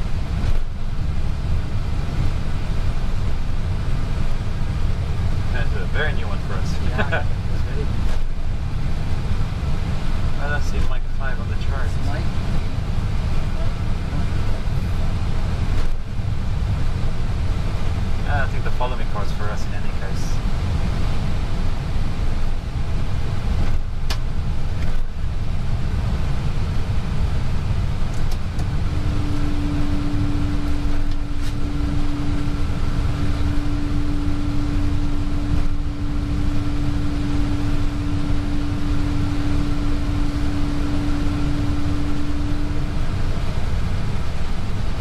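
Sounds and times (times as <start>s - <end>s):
engines and air conditioning rumble: 0.0s - 45.0s
steady low tone: 0.0s - 45.0s.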